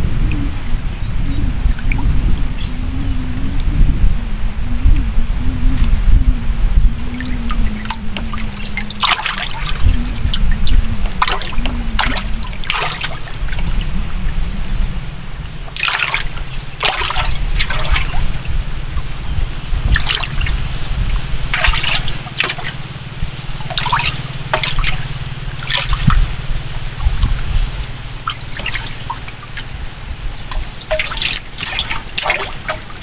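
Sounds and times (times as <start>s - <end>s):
steady low hum: 0.0s - 33.0s
water splashing and trickling: 0.0s - 33.0s.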